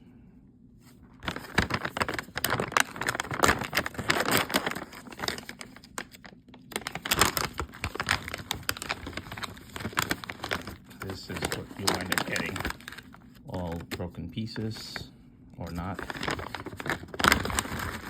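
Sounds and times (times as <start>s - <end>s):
plastic snack bag crinkling: 1.2s - 18.0s.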